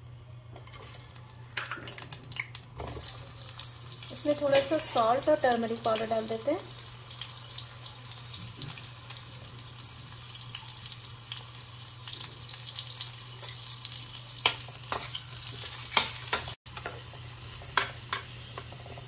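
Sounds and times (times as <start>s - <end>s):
potatoes sizzling in hot oil: 0.8s - 19.0s.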